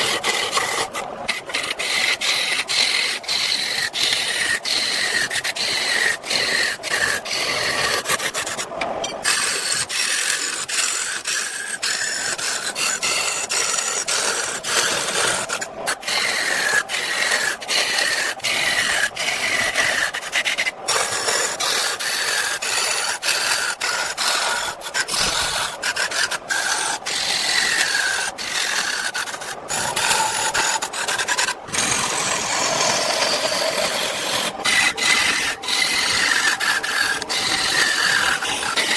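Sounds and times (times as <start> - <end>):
wood rasping: 0.0 - 38.9.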